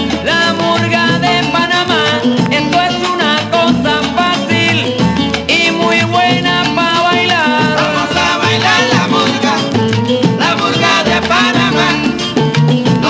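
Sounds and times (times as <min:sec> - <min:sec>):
maracas: 0:00.0 - 0:13.0
salsa music from a vinyl record: 0:00.0 - 0:13.0.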